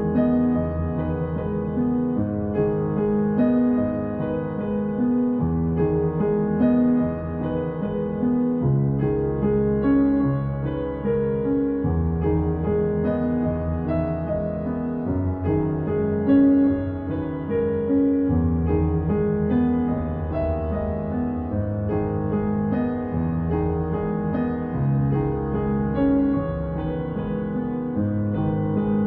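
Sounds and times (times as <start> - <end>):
gentle piano piece: 0.0 - 29.0.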